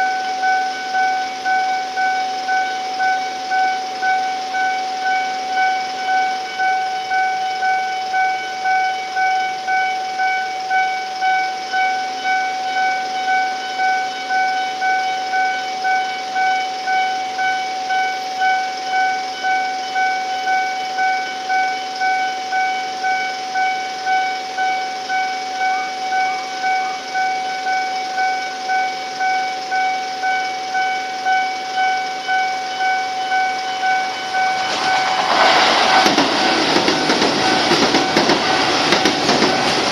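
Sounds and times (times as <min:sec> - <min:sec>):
level crossing alarm dinging: 0:00.0 - 0:39.9.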